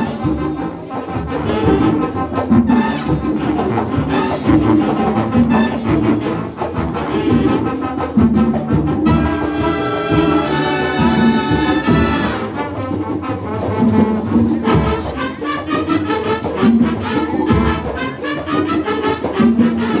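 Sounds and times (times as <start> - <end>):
brass trumpets and trombones: 0.0 - 20.0
marching percussion: 0.0 - 20.0.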